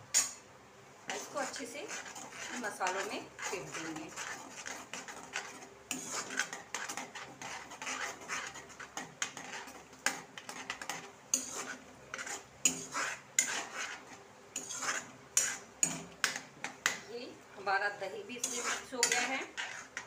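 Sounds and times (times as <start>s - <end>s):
metal spatula scraping a pan: 0.1s - 0.4s, 1.1s - 17.0s, 18.3s - 20.0s.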